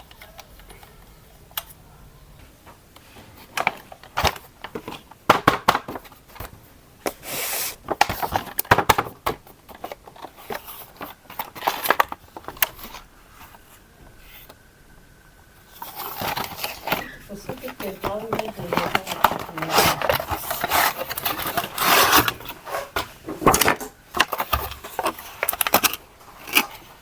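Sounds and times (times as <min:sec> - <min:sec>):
faint steady whine: 0:00.0 - 0:27.0
clicks and knocks of plastic parts: 0:02.6 - 0:07.2, 0:07.9 - 0:14.6, 0:15.7 - 0:27.0
packaging rustling: 0:03.0 - 0:14.6, 0:15.6 - 0:27.0.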